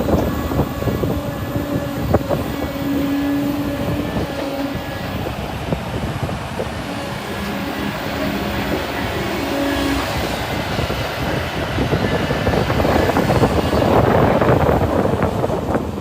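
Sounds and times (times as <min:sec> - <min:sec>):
excavator engine and machinery: 0:00.0 - 0:16.0.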